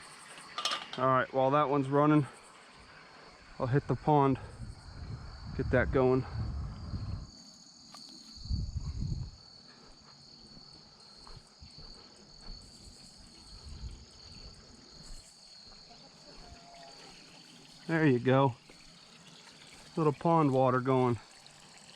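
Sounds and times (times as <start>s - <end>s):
crickets trilling: 0.0s - 21.9s.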